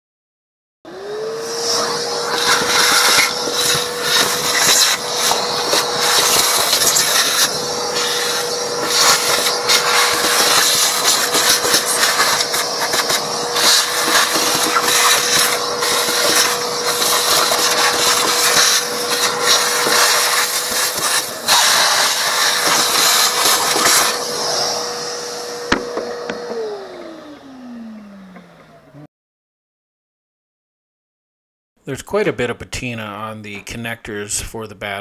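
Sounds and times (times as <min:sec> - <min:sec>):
small electric motor whining: 0:00.9 - 0:29.1.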